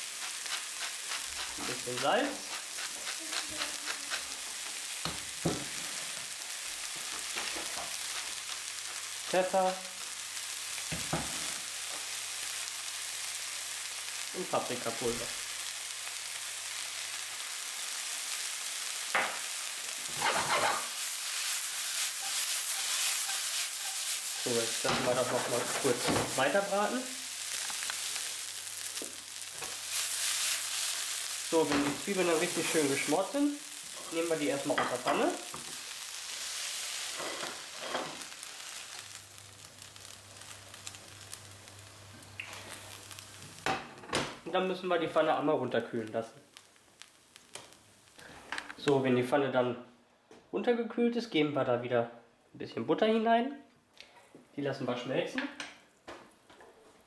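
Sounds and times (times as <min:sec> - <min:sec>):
onions sizzling in a frying pan: 0:00.0 - 0:49.2.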